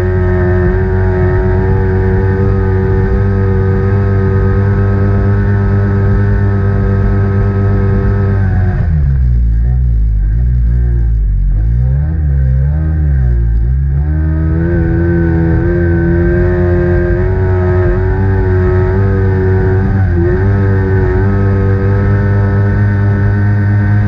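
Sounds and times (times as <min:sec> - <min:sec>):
powerboat engine revving: 0:00.0 - 0:24.0.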